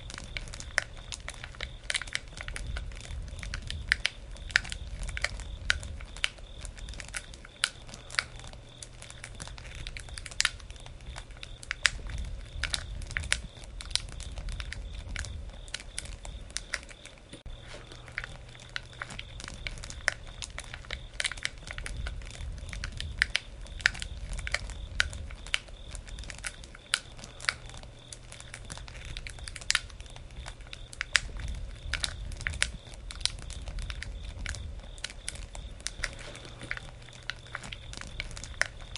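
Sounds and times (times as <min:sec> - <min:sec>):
low rumble of flames: 0:00.0 - 0:38.9
wood fire popping: 0:00.0 - 0:38.9.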